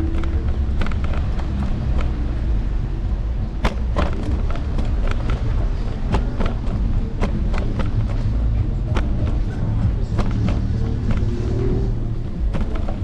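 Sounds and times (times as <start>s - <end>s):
sharp knocks and rattles: 0.0s - 2.5s, 3.4s - 13.0s
electric scooter rumble: 0.0s - 13.0s.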